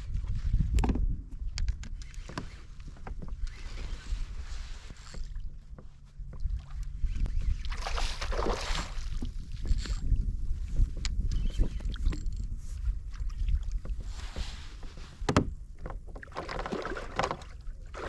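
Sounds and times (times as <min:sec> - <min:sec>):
wind rumble on microphone: 0:00.0 - 0:18.0
water lapping against kayak hull: 0:02.1 - 0:18.0.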